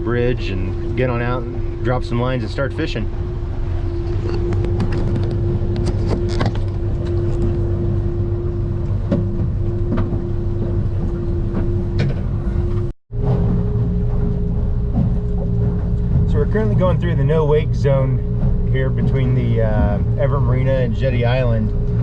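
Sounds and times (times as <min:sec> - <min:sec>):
outboard engine running: 0:00.0 - 0:22.0.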